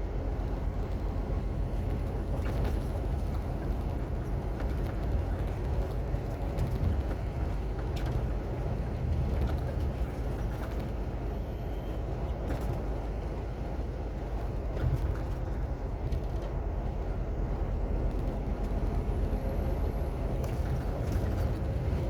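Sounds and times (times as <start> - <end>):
heavy truck engine rumble: 0.0 - 22.0.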